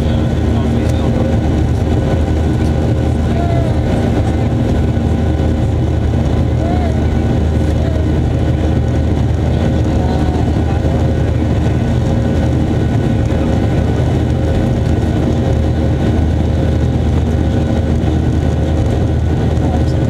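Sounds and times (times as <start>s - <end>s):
jet engine cabin drone: 0.0s - 20.0s.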